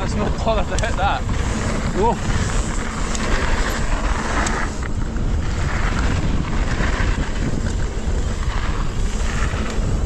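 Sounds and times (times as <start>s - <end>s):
bike tyre noise: 0.0s - 10.0s
sharp clicks from bike: 0.0s - 10.0s
wind buffeting microphone: 0.0s - 10.0s.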